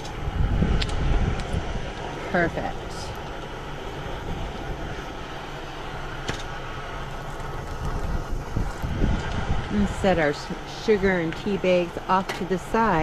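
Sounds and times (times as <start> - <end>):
wind buffeting the microphone: 0.0 - 5.4, 7.1 - 13.0.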